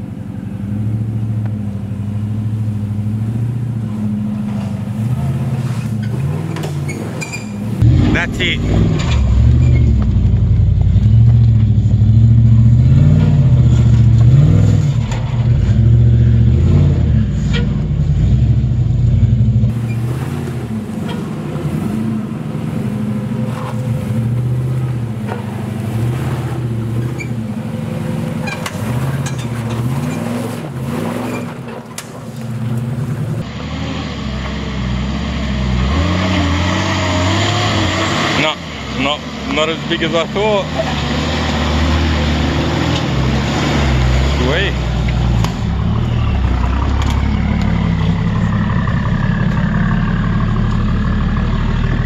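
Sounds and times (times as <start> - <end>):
four-wheel drive engine revving: 0.0 - 52.0
second four-wheel drive engine: 0.0 - 52.0.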